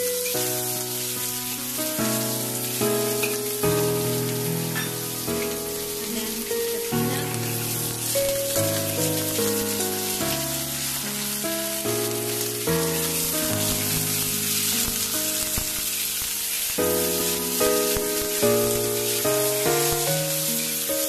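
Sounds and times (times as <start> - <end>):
food sizzling in a wok: 0.0 - 21.0
slow background music: 0.0 - 21.0.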